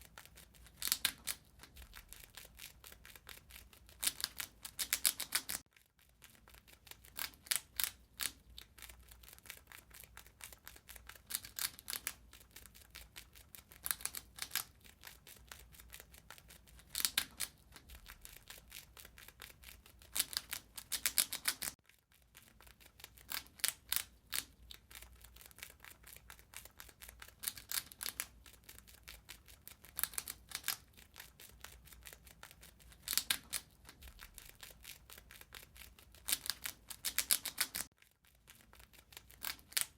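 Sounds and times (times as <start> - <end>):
rat gnawing and crunching: 0.0 - 39.9.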